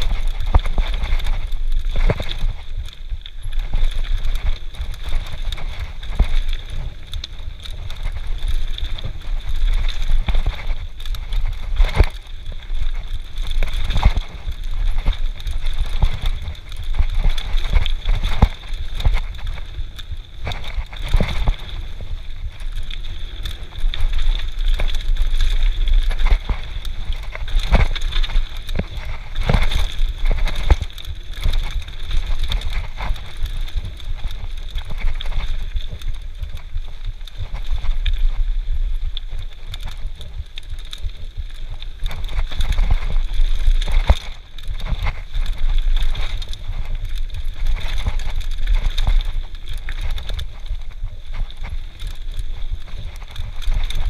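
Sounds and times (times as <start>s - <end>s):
bike rattling over rocks: 0.0s - 54.0s.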